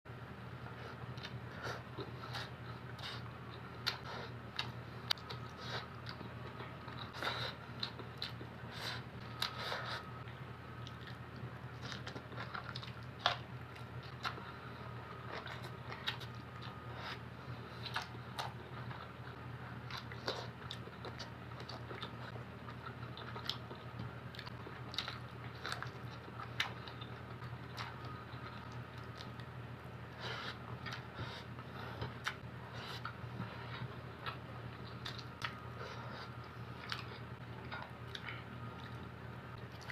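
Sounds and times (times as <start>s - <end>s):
steady low hum: 0.1s - 39.9s.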